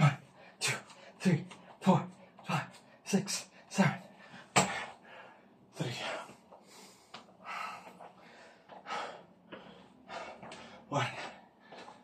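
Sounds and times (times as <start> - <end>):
man breathing heavily: 0.0 - 12.0.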